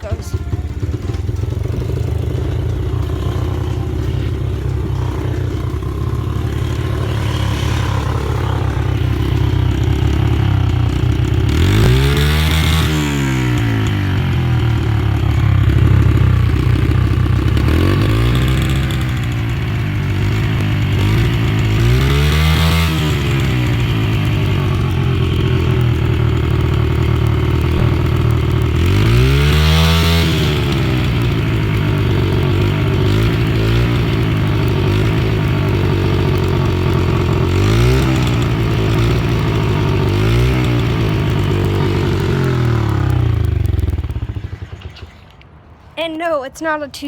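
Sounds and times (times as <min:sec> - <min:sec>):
dirt bike engine revving: 0:00.0 - 0:45.6.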